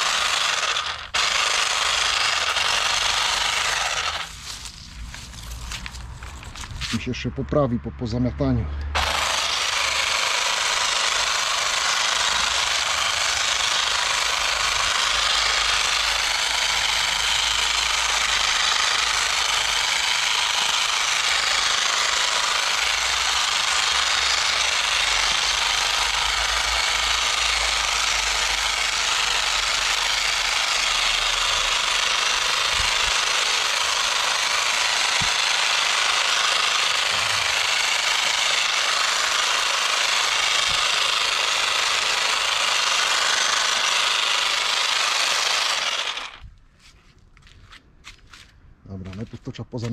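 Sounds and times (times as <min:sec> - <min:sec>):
electric garden tool whirring: 0:00.0 - 0:06.9, 0:08.8 - 0:46.6.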